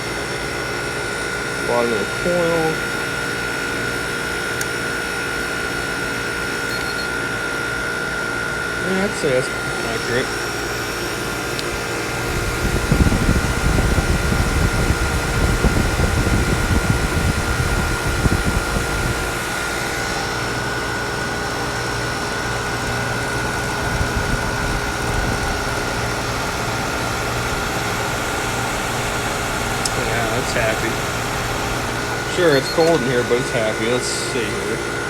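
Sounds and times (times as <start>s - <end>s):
air conditioner humming with whine: 0.0s - 35.0s.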